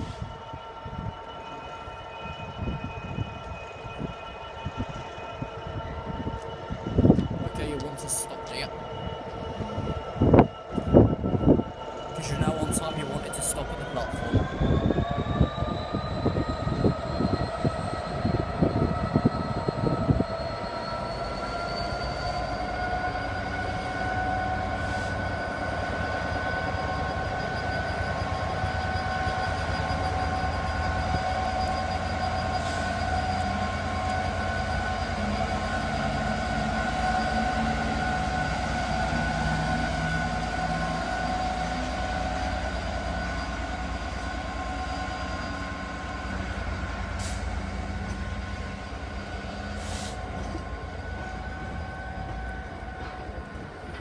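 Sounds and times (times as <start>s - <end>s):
diesel locomotive engine whine: 0.0s - 54.0s.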